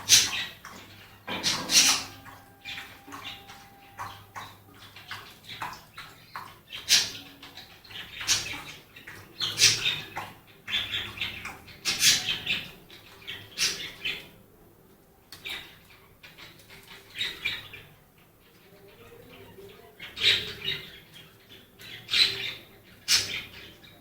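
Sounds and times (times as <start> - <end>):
puppies squeaking and whimpering: 0.0 - 14.4, 16.4 - 24.0.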